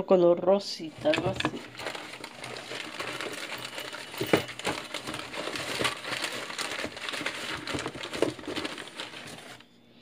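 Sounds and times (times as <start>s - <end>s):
decorations rustling and clattering: 0.8s - 9.7s.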